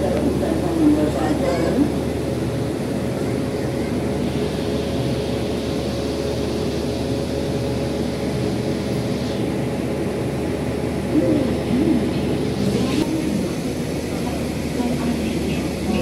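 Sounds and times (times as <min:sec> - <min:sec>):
electric locomotive humming: 0:00.0 - 0:16.0.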